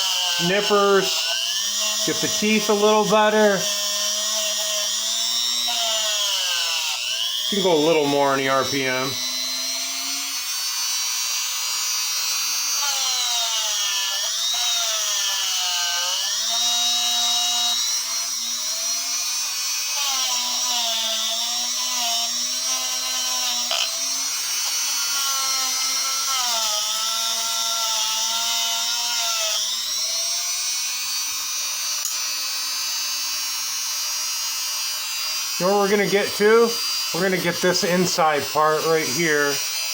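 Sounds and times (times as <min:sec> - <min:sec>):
die grinder whining: 0:00.0 - 0:39.9.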